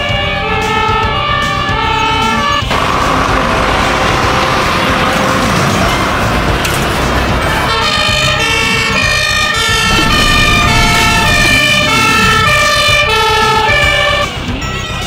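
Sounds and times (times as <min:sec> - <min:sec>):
fire engine two-tone siren: 0:00.0 - 0:06.6, 0:07.4 - 0:14.8.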